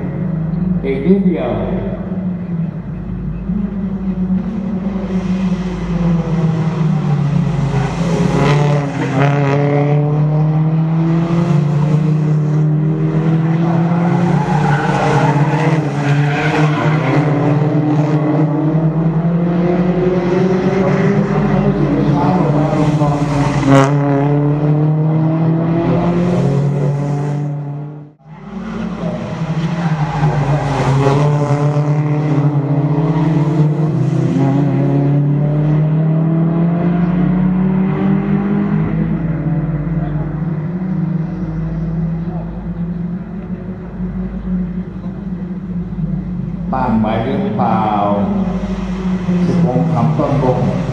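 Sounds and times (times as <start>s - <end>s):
race car engines accelerating: 0.0s - 50.9s.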